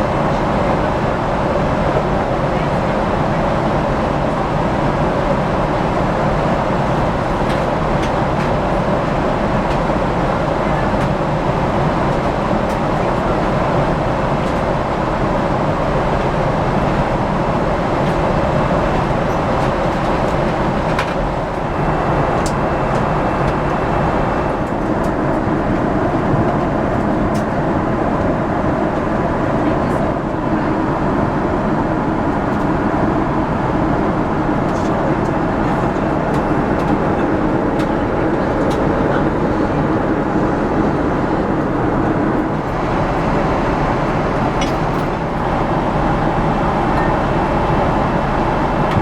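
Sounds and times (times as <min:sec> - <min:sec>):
airliner cabin engine rush: 0:00.0 - 0:49.0.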